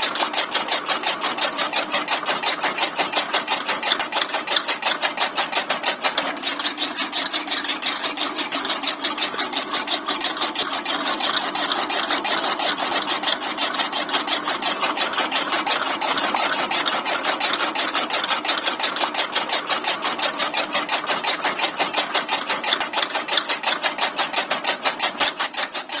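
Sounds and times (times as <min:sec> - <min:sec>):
chaff cutter chopping grass: 0:00.0 - 0:26.0.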